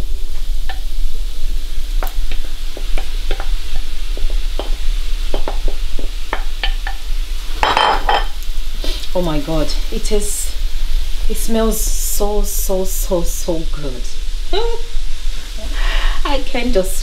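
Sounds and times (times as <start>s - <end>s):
frying pan sizzling: 0.0s - 17.0s.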